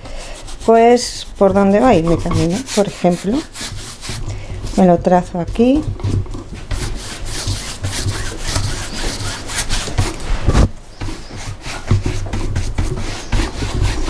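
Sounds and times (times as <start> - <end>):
bristle brush scrubbing paint: 0.0 - 14.0.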